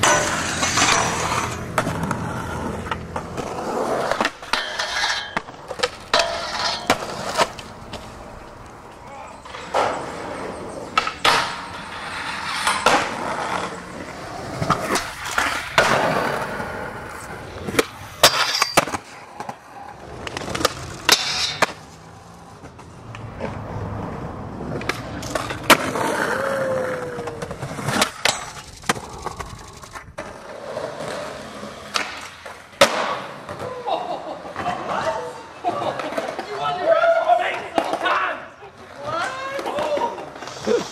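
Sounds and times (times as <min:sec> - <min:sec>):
skateboard clacks: 0:00.0 - 0:36.9
skateboard wheels rolling: 0:00.0 - 0:40.9.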